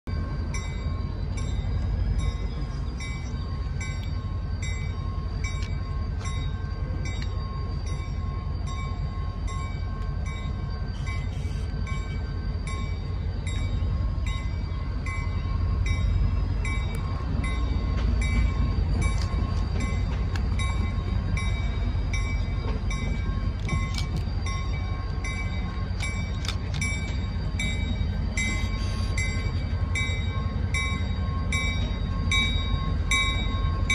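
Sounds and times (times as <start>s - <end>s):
diesel locomotive rumbling: 0.0s - 33.9s.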